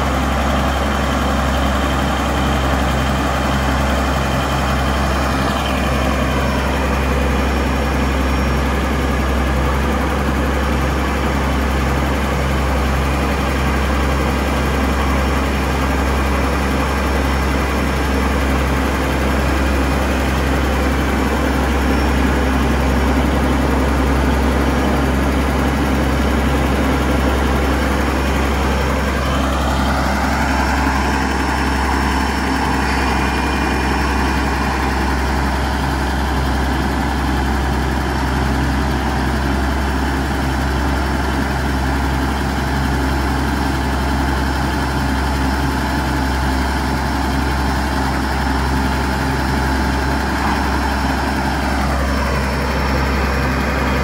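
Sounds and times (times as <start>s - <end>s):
bulldozer diesel engine idling: 0.0s - 54.0s.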